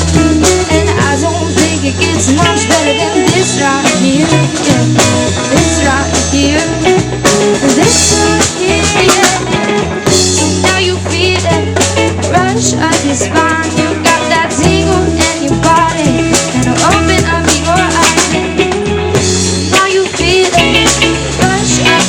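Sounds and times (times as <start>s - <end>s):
bass guitar: 0.0s - 22.0s
drum kit: 0.0s - 22.0s
electric guitar: 0.0s - 22.0s.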